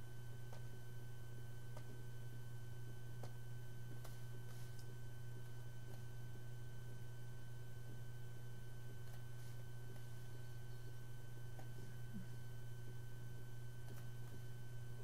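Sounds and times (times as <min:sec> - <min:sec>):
faint high whine: 0:00.0 - 0:15.0
steady low hum: 0:00.0 - 0:15.0.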